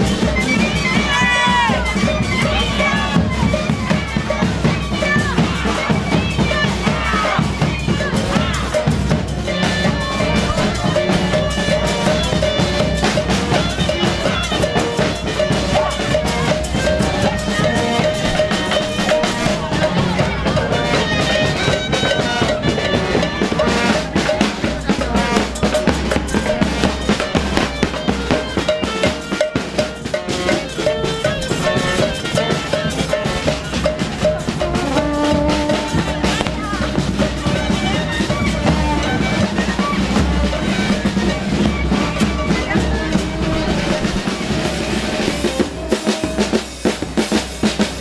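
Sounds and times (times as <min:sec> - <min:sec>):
drums and cymbals beating: 0:00.0 - 0:48.0
parade band playing lively music: 0:00.0 - 0:48.0.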